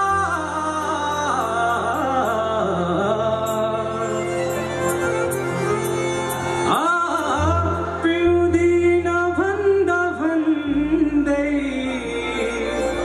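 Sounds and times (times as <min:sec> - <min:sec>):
band playing: 0:00.0 - 0:13.0
man singing into a microphone: 0:00.0 - 0:13.0.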